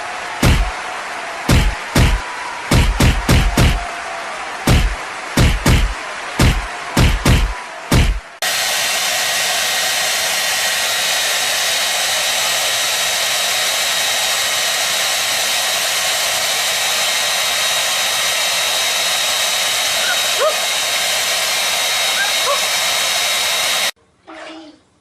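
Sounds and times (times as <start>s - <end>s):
rushing hiss: 0.4s - 0.7s, 1.5s - 3.8s, 4.7s - 24.0s.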